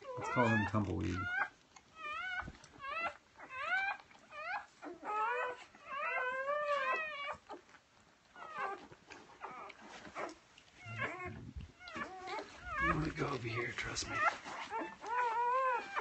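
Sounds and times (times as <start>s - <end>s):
puppies squealing: 0.0s - 7.7s, 8.3s - 16.0s.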